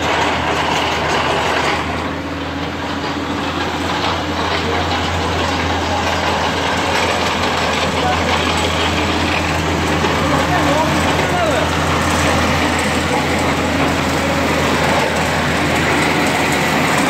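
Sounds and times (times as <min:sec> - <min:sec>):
drilling rig engine drone: 0:00.0 - 0:17.0.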